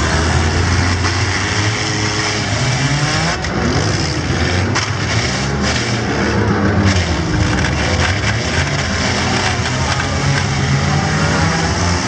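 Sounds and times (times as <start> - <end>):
car engines revving: 0.0 - 12.0
cars crashing: 0.0 - 12.0.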